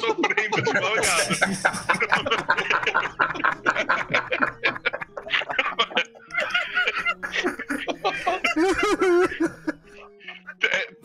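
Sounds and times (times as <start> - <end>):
people laughing over video call: 0.0 - 11.0.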